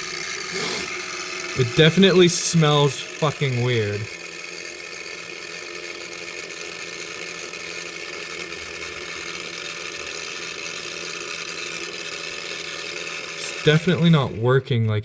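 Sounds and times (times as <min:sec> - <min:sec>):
grinder motor whirring: 0:00.0 - 0:15.0.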